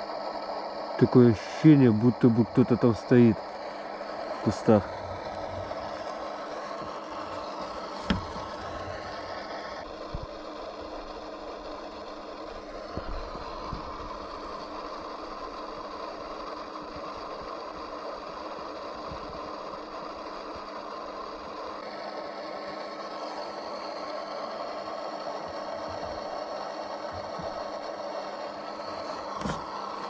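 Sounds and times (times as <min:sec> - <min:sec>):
hiss: 0:00.0 - 0:30.0
steady mechanical hum: 0:00.0 - 0:30.0.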